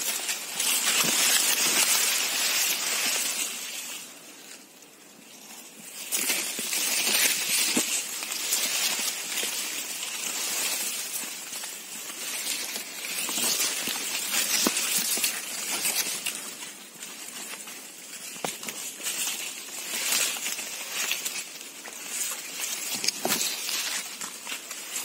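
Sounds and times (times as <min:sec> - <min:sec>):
maize leaves rustling: 0:00.0 - 0:25.0.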